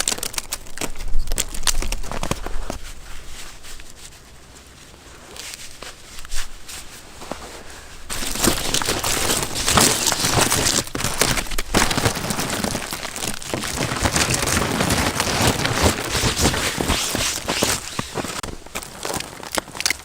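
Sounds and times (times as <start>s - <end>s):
dense crackling and rustling: 0.0s - 20.0s.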